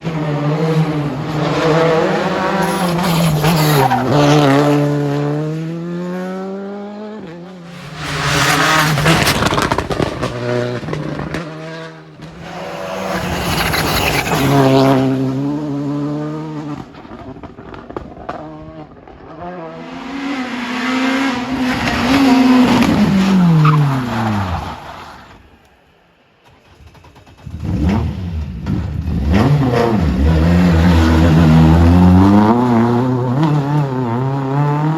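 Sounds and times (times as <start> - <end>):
rally car engines revving: 0.0 - 25.4, 27.2 - 34.9.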